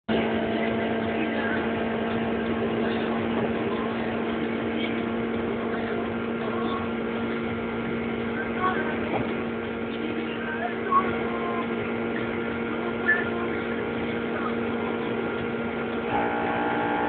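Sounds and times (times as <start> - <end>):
car engine on rev limiter: 0.1 - 17.0.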